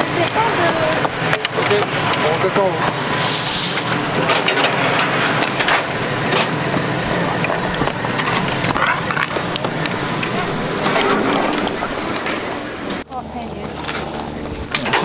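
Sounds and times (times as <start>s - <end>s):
chairlift mechanical hum: 0.0s - 15.0s.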